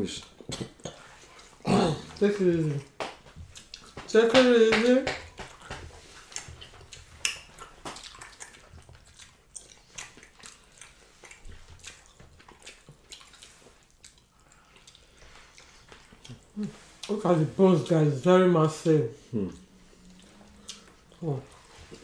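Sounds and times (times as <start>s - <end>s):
chewing and lip smacking: 0.1s - 4.1s, 5.3s - 17.2s, 19.5s - 22.0s.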